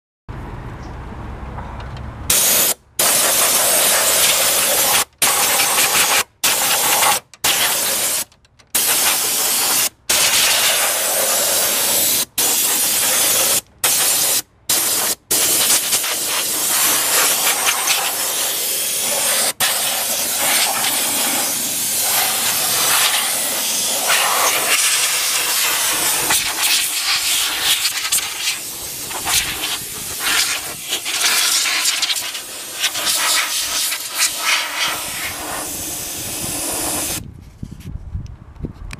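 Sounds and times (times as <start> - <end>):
compressed air blow gun hissing: 2.3 - 37.2.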